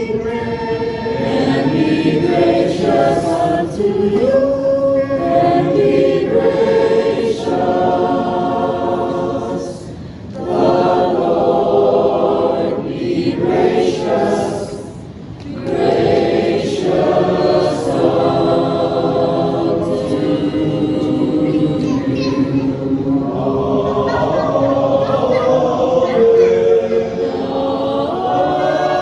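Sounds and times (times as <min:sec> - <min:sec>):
group singing a hymn: 0:00.0 - 0:29.0.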